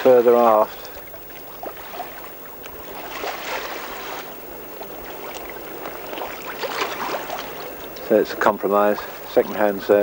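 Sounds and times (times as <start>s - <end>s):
water rushing along boat hull: 0.0s - 10.0s.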